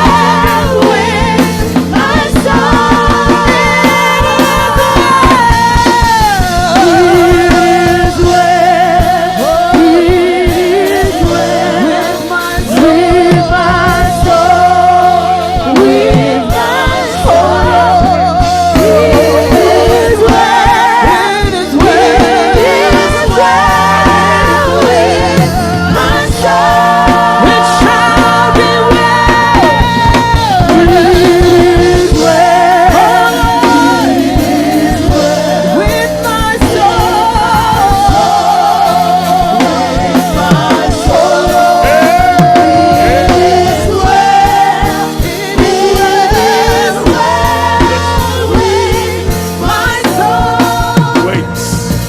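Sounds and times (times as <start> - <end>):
person singing with vibrato: 0.0 - 51.9
live band with drumbeat: 0.0 - 52.0.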